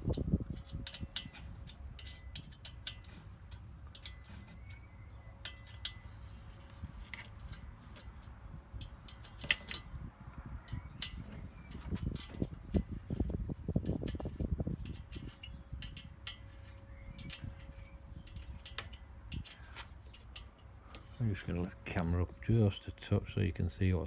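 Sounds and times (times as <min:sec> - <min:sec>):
small parts clicking and tapping: 0:00.0 - 0:21.7
low steady hum: 0:00.0 - 0:24.0.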